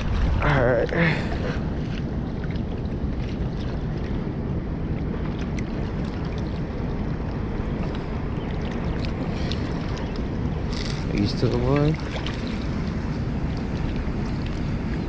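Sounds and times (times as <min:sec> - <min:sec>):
flowing water rushing: 0:00.0 - 0:15.0
wind on microphone: 0:00.0 - 0:15.0.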